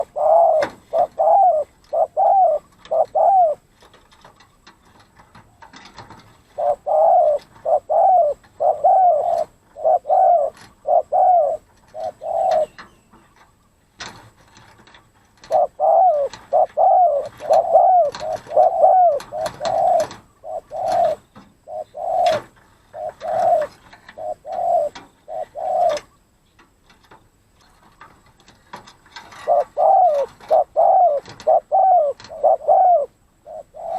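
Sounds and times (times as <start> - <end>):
dove cooing: 0.0 - 4.7, 5.9 - 13.5, 14.8 - 26.2, 28.7 - 33.9.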